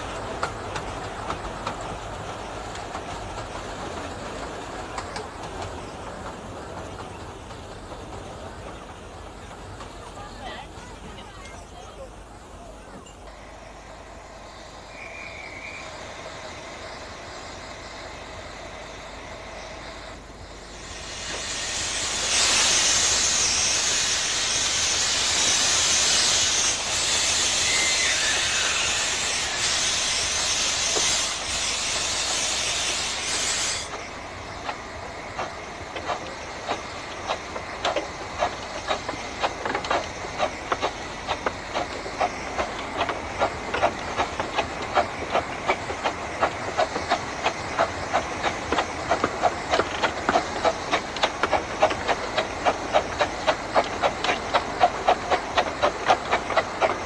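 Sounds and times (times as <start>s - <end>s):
steam locomotive exhaust beats: 0.0s - 57.0s
steam locomotive hissing steam: 0.0s - 57.0s.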